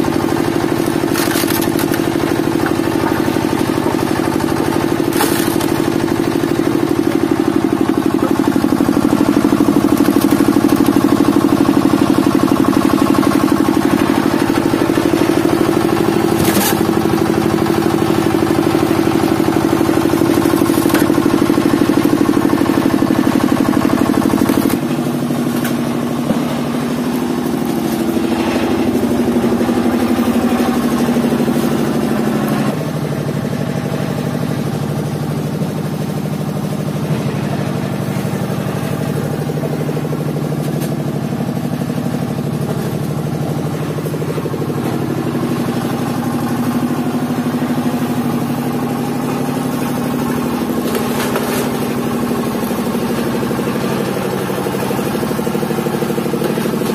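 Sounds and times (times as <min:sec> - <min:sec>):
stationary engine running: 0:00.0 - 0:56.9.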